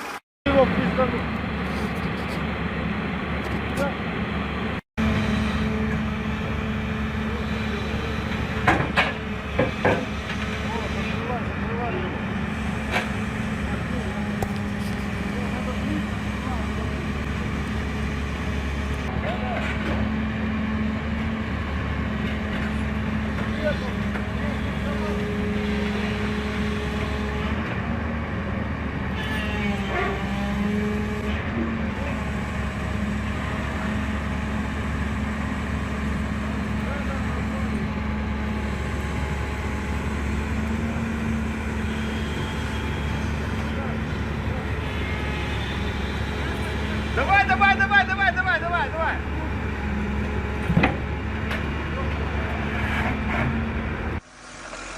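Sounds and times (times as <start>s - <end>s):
vehicle engine humming: 0.0s - 54.9s.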